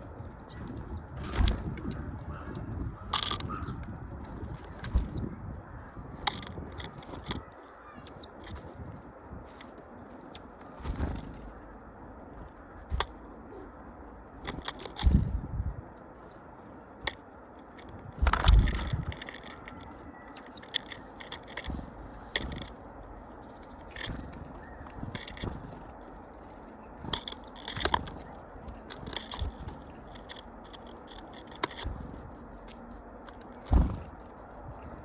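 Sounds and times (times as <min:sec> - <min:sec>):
birds pecking at feeder: 0:00.0 - 0:35.0.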